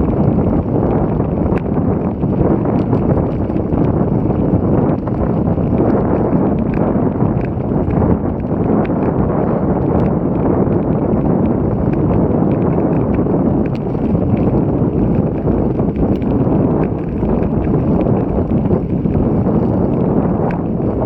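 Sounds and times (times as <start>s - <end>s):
faint ticks: 0.0s - 21.0s
wind buffeting microphone: 0.0s - 21.0s.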